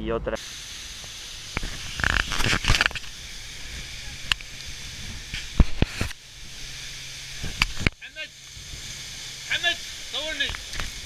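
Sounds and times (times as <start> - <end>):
boat engine hum: 0.4 - 11.0
waterfall rushing: 0.4 - 11.0.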